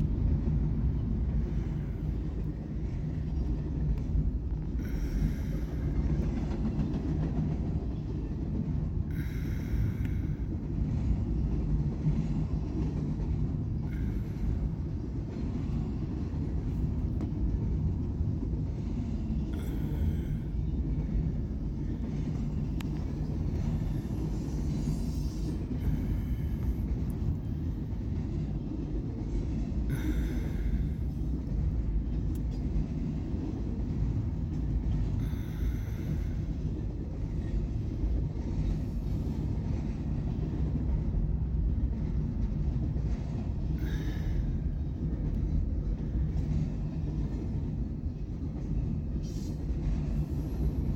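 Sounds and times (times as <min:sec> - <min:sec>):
freight train wheels rumbling: 0:00.0 - 0:50.9.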